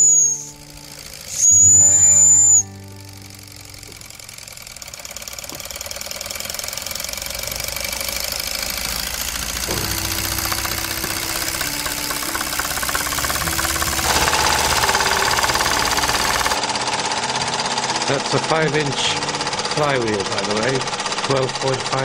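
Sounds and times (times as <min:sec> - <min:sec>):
toy steam engine ticking clatter: 0:00.0 - 0:22.0.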